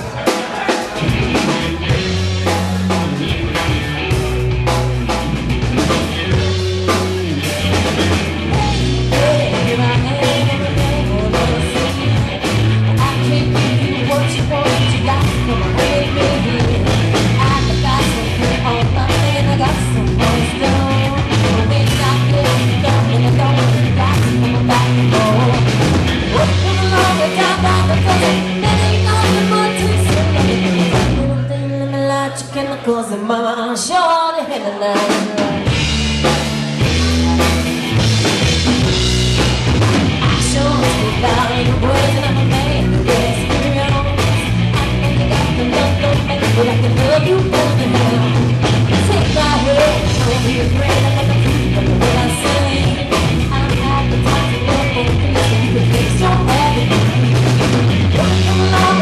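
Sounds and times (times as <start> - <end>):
drum kit steady beat: 0.0 - 31.4, 35.0 - 59.0
bass guitar: 0.0 - 32.9, 35.0 - 59.0
electric guitar: 0.0 - 34.0, 34.6 - 59.0.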